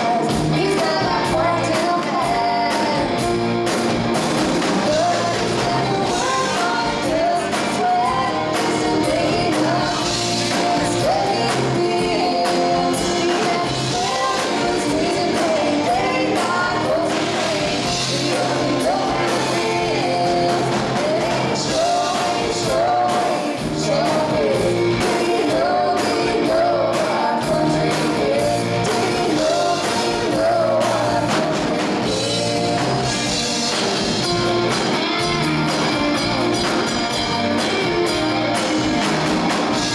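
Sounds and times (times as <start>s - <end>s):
woman singing: 0.0s - 3.4s, 4.8s - 34.3s
live band playing: 0.0s - 39.9s.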